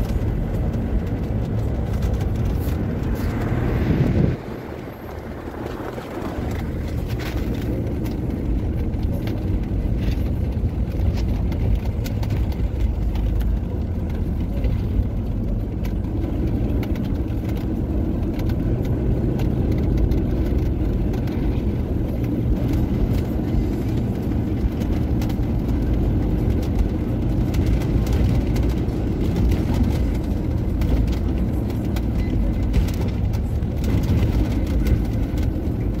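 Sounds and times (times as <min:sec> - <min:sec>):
car interior road rumble: 0:00.0 - 0:36.0.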